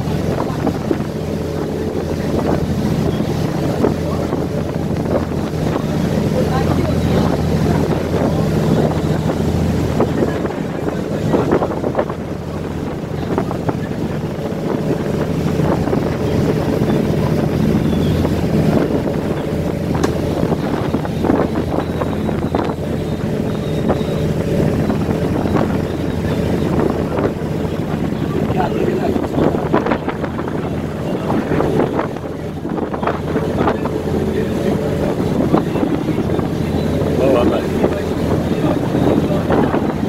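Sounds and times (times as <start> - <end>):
boat engine drone: 0.0 - 40.0
rushing water: 0.0 - 40.0
wind buffeting microphone: 0.0 - 40.0.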